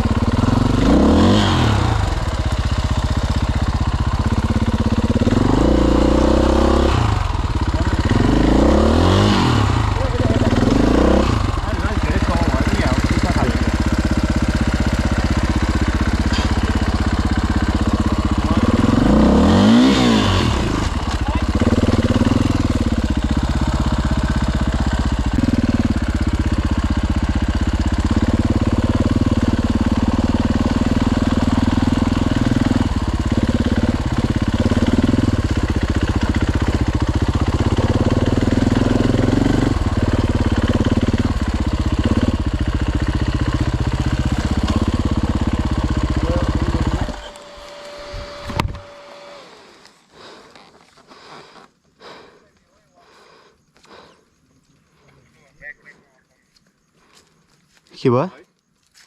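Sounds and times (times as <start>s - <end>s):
dirt bike engine running: 0.0s - 52.4s.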